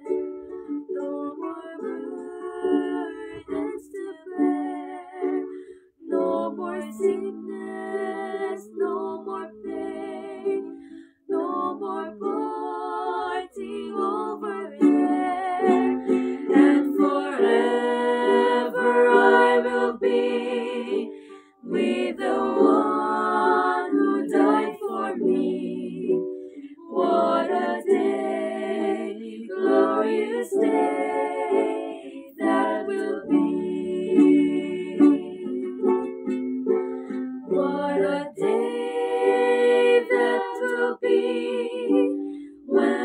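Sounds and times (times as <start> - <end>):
strummed ukulele: 0.0 - 43.0
women singing gospel song: 0.7 - 36.1, 36.7 - 43.0.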